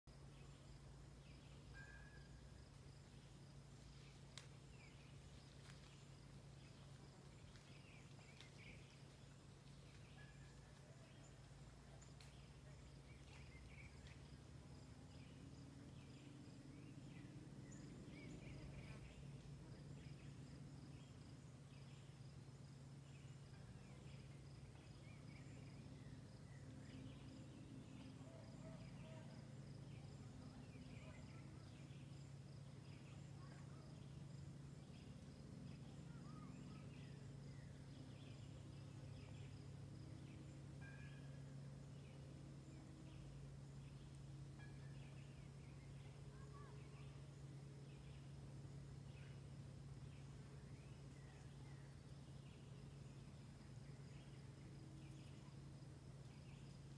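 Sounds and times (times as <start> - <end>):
small birds chirping: 0.1 - 40.7, 41.4 - 56.9
low steady hum: 0.1 - 56.9.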